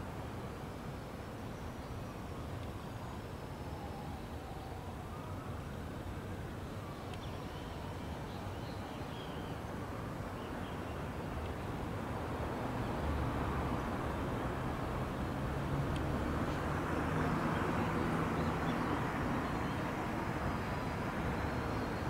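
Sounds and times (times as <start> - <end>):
distant traffic rumble: 2.4 - 22.0.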